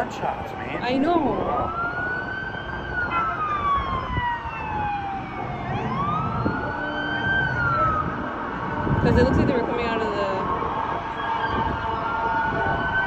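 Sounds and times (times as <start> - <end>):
low rumble of street traffic: 0.0 - 13.0
police siren wailing: 0.0 - 13.0.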